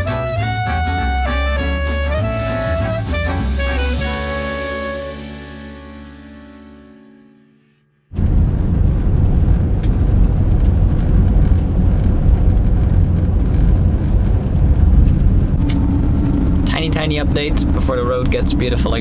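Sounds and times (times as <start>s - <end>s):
road noise: 0.0s - 6.3s, 8.3s - 19.0s
van engine rumbling: 0.0s - 6.4s, 8.2s - 19.0s.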